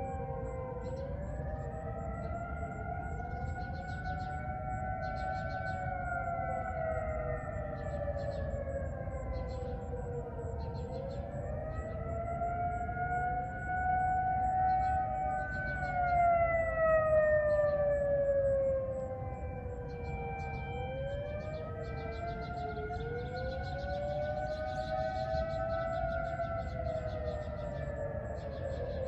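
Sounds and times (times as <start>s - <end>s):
warning sirens wailing: 0.0s - 29.0s.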